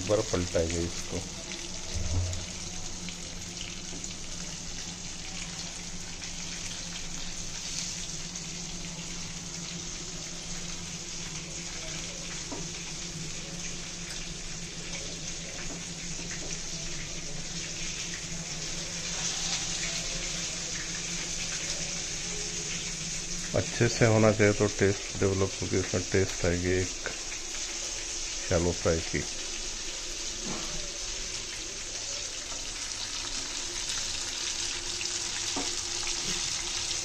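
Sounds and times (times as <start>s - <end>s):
fish sizzling in oil: 0.0s - 37.0s.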